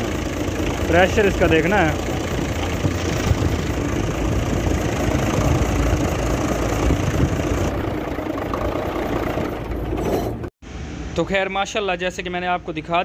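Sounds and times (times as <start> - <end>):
diesel truck engine idling: 0.0 - 10.5.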